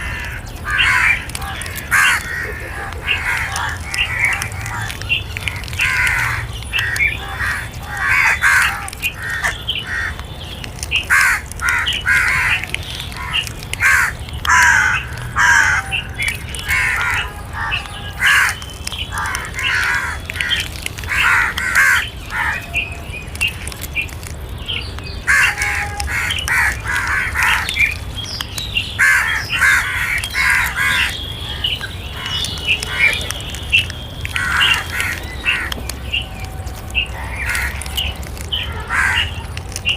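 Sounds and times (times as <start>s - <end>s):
crows cawing: 0.0s - 39.9s
steady low rumble: 0.0s - 39.9s.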